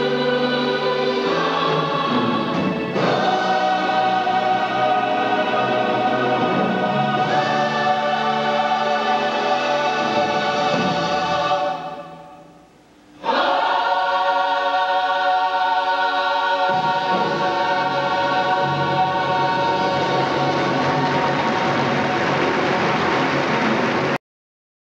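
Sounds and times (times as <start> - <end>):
choir singing held chords: 0.0 - 24.2.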